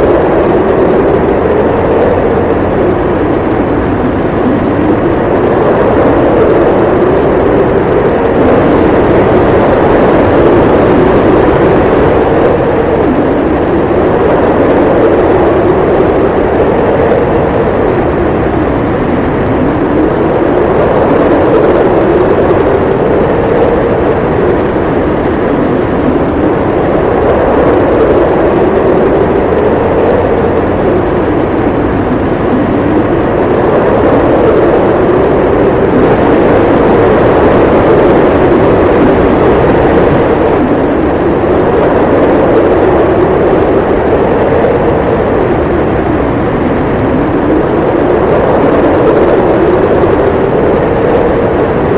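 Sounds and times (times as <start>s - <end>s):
storm wind howling: 0.0s - 51.9s.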